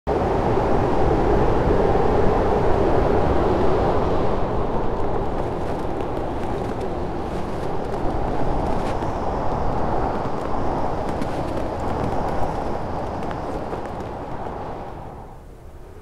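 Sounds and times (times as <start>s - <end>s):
blizzard wind rushing: 0.1s - 16.0s.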